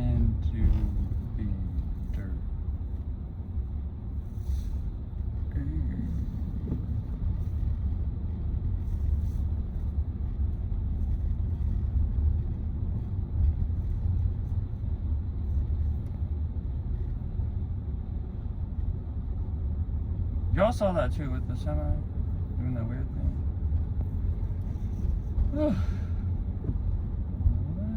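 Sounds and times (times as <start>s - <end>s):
road and tyre rumble in car: 0.0s - 27.9s.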